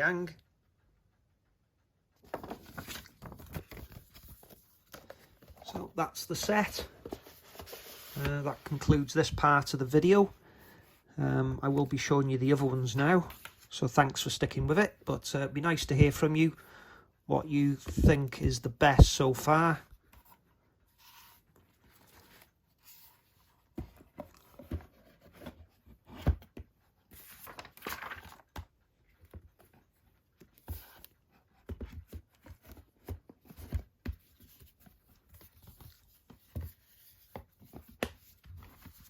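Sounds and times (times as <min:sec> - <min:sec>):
cardboard and plastic rustling: 0:02.2 - 0:16.4, 0:17.7 - 0:39.0.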